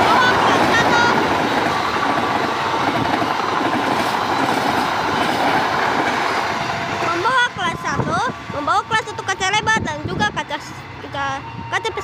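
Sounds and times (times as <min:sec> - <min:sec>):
train wheels on track: 0:00.0 - 0:12.0.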